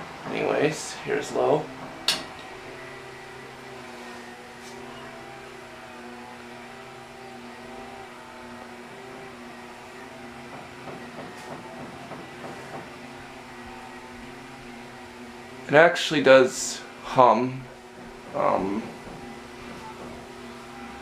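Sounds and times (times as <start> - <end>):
ceiling fan motor humming: 0.0 - 21.0.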